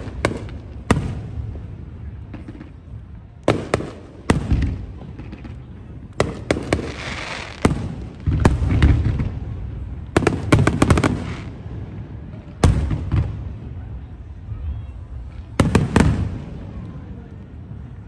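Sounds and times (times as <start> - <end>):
cracking fireworks reports: 0.0 - 18.0.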